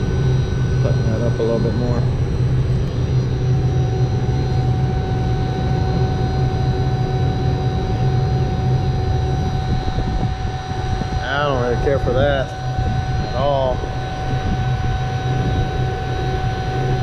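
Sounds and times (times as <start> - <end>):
vacuum pump droning: 0.0 - 17.0.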